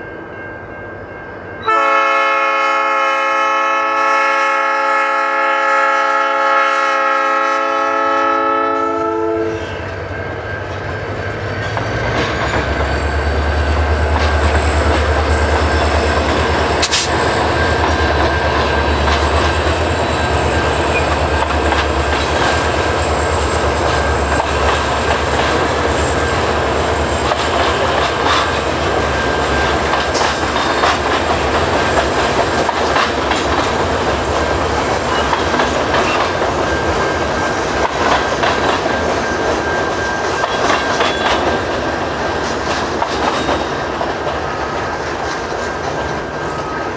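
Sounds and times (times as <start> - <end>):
deep train rumble: 0.0 - 46.9
freight train wheels clacking: 6.3 - 46.9.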